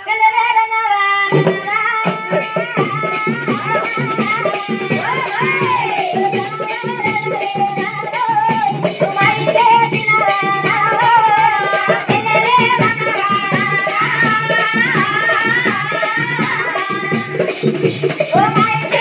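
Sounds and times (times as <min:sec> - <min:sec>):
jingling percussion beat: 0:01.3 - 0:19.0.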